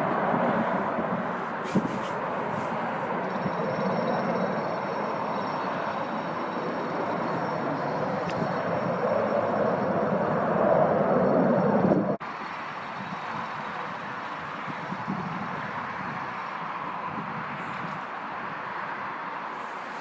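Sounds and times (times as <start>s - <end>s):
jet airliner engines passing: 0.0s - 20.0s.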